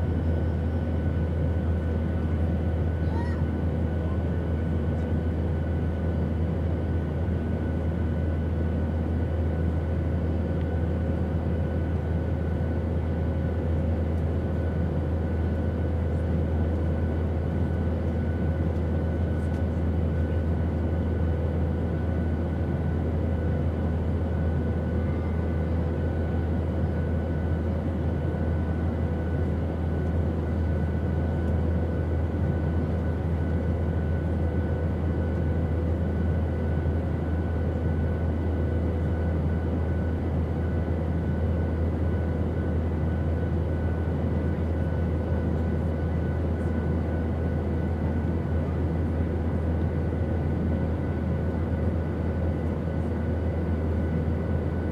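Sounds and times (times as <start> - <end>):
airplane engine drone: 0.0 - 54.9.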